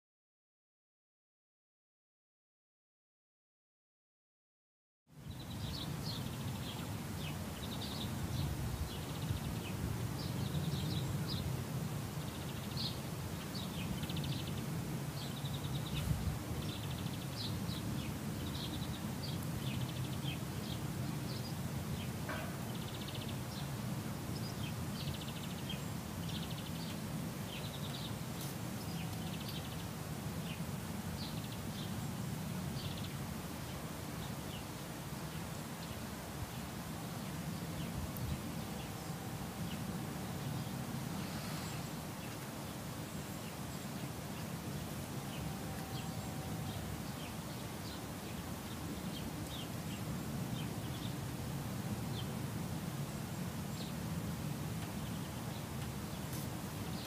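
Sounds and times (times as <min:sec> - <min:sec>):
small birds chirping: 0:05.2 - 0:51.3, 0:52.0 - 0:52.4, 0:53.2 - 0:57.0.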